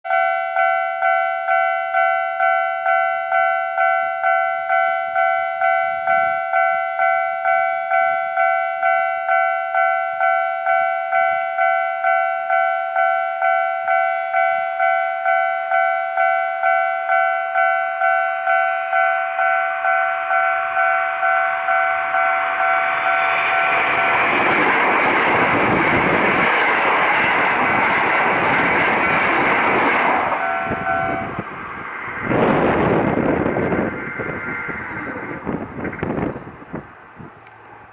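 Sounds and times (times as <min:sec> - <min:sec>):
level crossing warning bell ringing: 0:00.1 - 0:35.6
train passing: 0:00.1 - 0:37.9.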